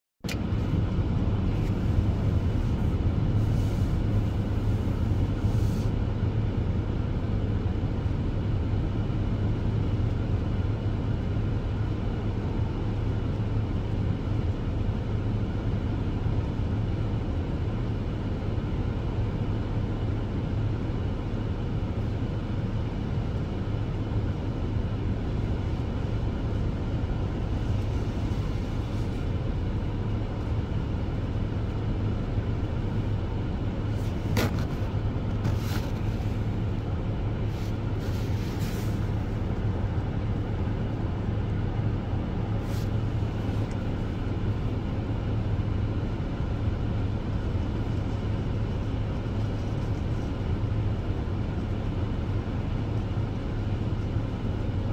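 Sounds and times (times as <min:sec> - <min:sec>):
vehicle engine idling: 0:00.2 - 0:54.9.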